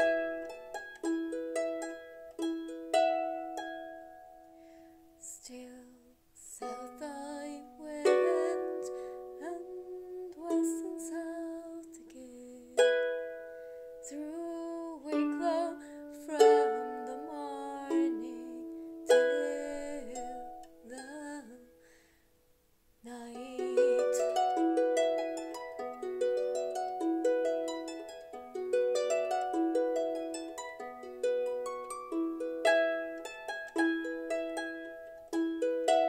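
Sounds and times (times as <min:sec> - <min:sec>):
harp music: 0:00.0 - 0:05.2, 0:06.6 - 0:21.7, 0:23.4 - 0:36.0.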